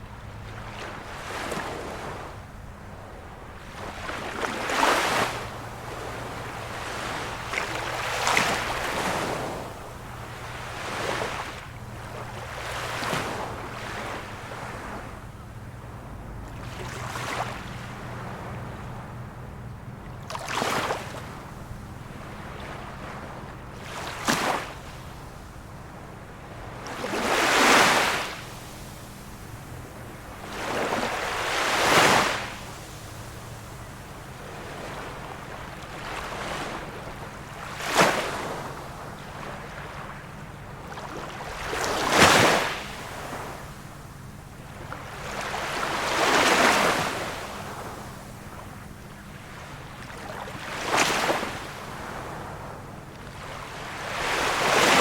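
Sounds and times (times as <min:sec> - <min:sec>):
small waves washing ashore: 0:00.0 - 0:55.0.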